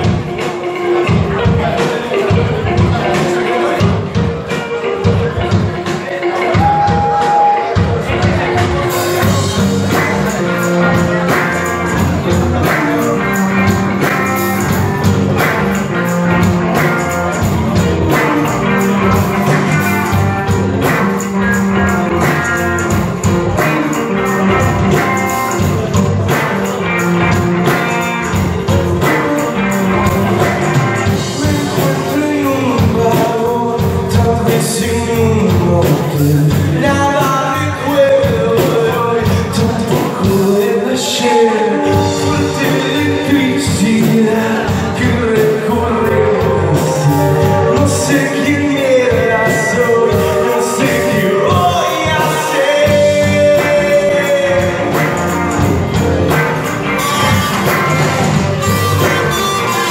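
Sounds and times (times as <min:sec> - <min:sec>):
bass guitar: 0:00.0 - 0:59.9
drums: 0:00.0 - 0:59.9
electric guitars: 0:00.0 - 0:59.9
man singing: 0:00.0 - 0:59.9.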